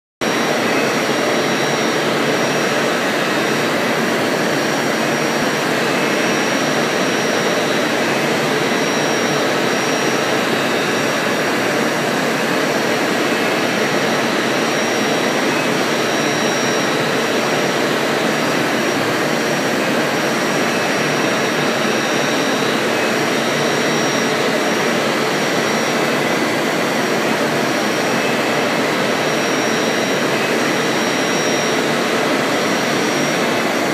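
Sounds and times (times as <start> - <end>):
high spindle whine: 0.2 - 33.9
milling machine cutting: 0.2 - 33.9.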